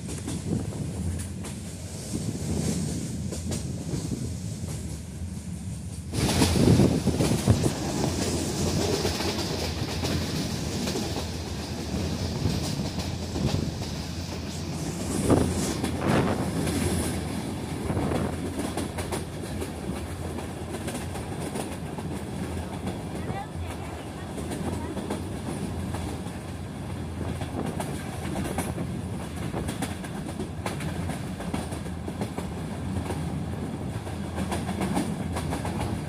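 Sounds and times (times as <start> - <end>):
train rolling noise: 0.0 - 36.0.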